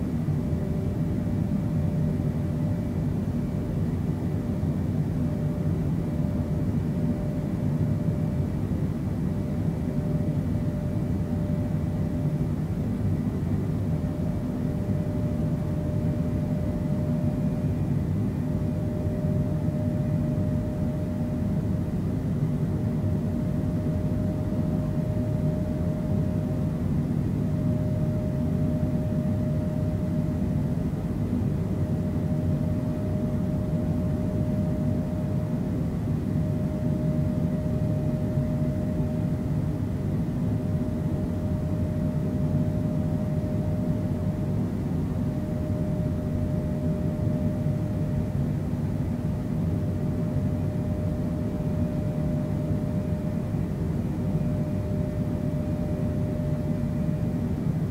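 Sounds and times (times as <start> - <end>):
jet engine and airflow noise: 0.0 - 57.9
steady mid-pitched hum: 0.0 - 57.9.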